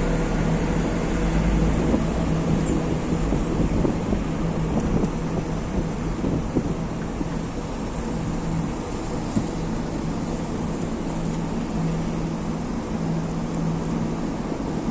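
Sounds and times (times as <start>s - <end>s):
jet cabin engine rumble: 0.0s - 14.9s.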